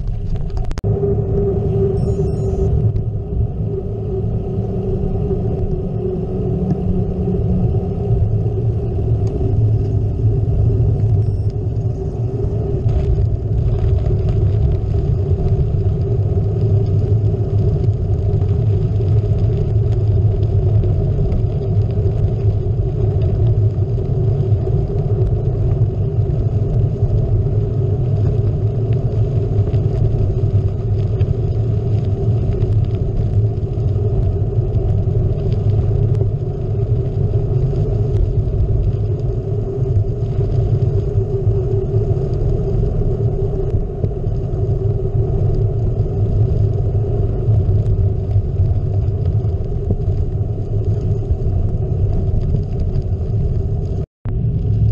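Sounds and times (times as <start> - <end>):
bike tyre rumble: 0.0 - 54.9
wind noise: 0.0 - 54.9.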